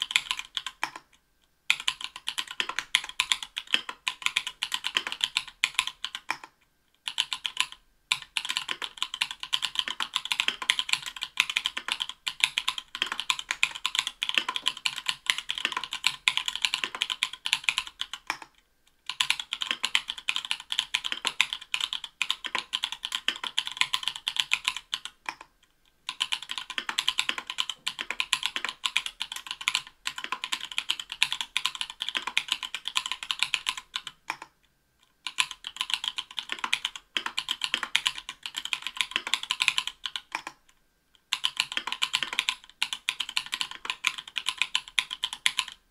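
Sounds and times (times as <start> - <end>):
mechanical keyboard typing: 0.0 - 25.5, 26.1 - 34.5, 35.2 - 40.7, 41.3 - 45.8.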